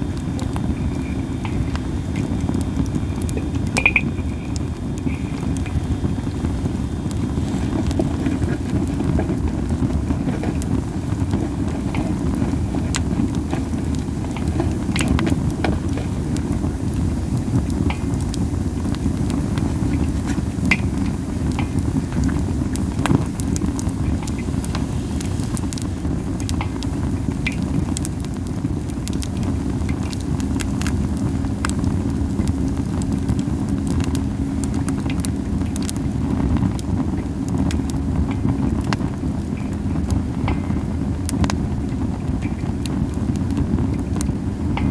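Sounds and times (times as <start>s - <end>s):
low fire rumble: 0.0s - 44.9s
wood fire crackling and popping: 0.0s - 44.9s.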